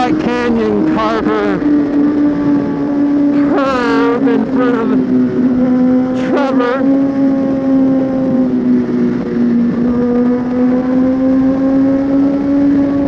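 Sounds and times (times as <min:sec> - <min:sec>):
motorcycle engine at high rpm: 0:00.0 - 0:13.0.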